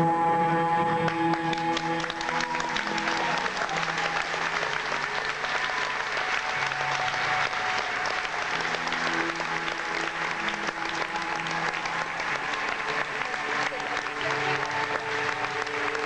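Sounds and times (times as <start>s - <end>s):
audience applauding: 0.0s - 16.0s
music with held notes: 0.0s - 16.0s.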